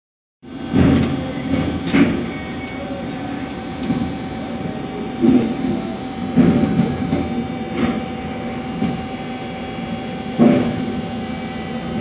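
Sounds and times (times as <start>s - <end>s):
sawmill machinery humming: 0.4s - 12.0s.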